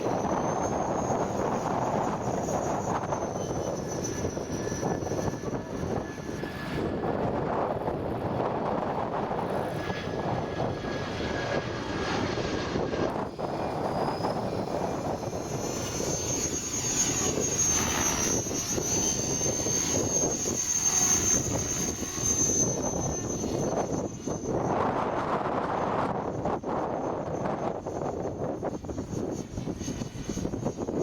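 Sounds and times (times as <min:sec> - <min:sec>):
helicopter motor and rotor whine: 0:00.0 - 0:31.0
wind on microphone: 0:00.0 - 0:31.0.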